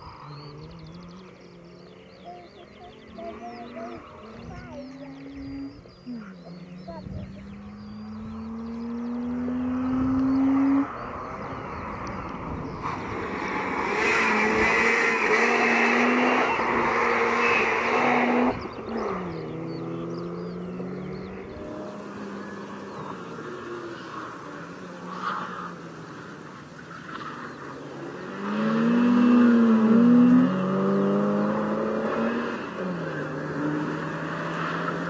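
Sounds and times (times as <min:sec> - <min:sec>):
rotary engine accelerating: 0:00.0 - 0:35.0.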